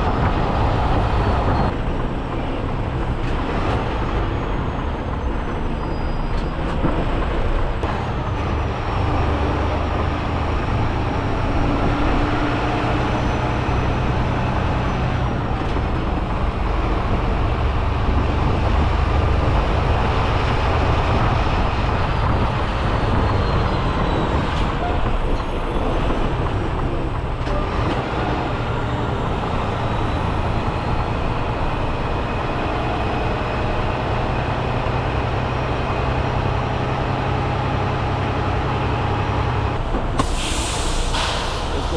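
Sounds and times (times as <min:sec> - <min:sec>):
road and tyre noise: 0:00.0 - 0:41.9
truck engine drone: 0:00.0 - 0:41.9.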